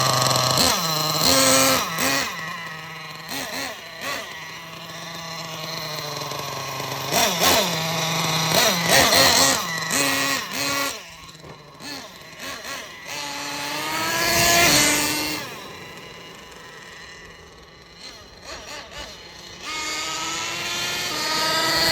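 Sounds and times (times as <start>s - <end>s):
model engine revving: 0.0s - 21.9s.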